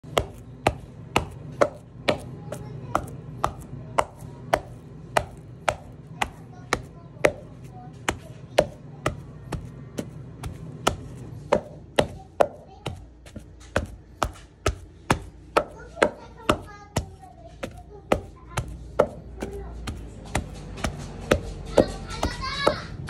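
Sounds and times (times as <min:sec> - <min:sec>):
wooden pestle pounding in mortar: 0:00.0 - 0:23.0.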